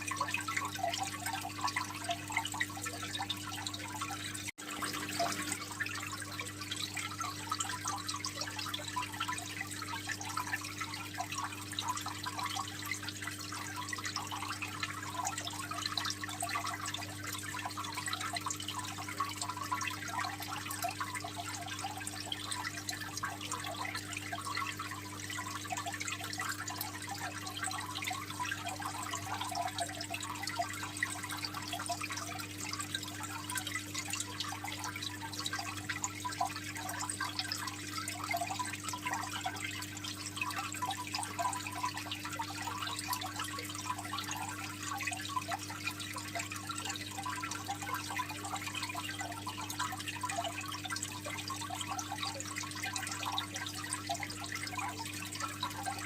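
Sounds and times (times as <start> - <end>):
water trickling into aquarium: 0.0 - 56.0.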